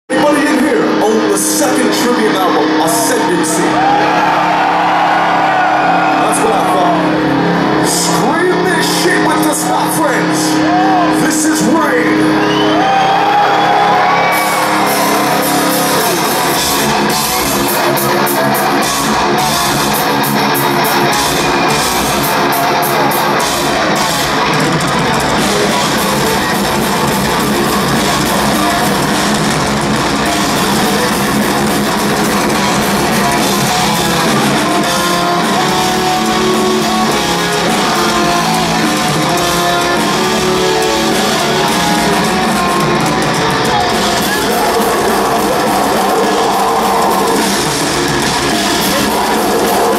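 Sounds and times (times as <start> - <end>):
heavy metal band playing live: 0.1 - 49.9.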